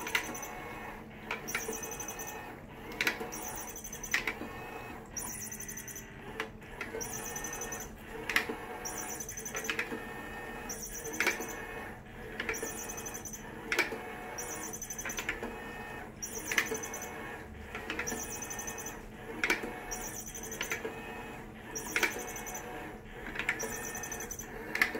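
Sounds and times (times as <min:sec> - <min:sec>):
toy motor whir: 0:00.0 - 0:00.8, 0:01.4 - 0:04.4, 0:05.2 - 0:06.1, 0:06.8 - 0:21.1, 0:21.7 - 0:24.9.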